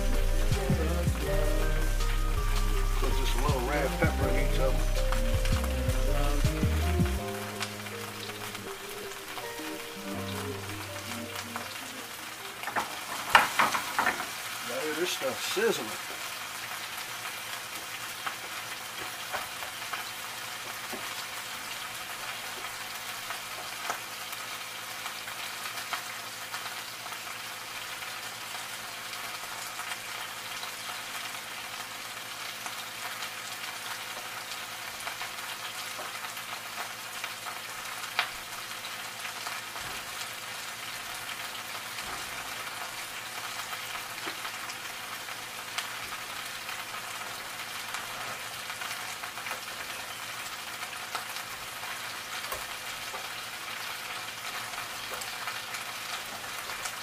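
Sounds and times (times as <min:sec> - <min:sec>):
vegetables sizzling in frying pans: 0:00.0 - 0:57.0.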